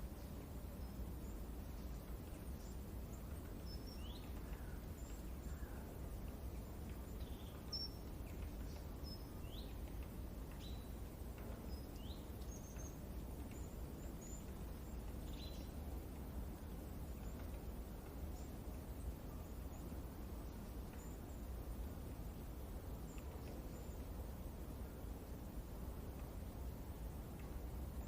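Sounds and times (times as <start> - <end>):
low rush of wind: 0.0 - 28.0.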